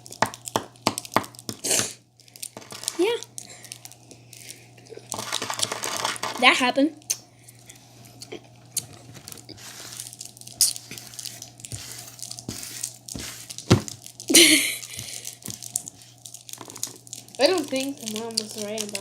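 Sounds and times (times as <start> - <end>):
wrapper crinkling: 0.0 - 6.6, 8.8 - 19.0.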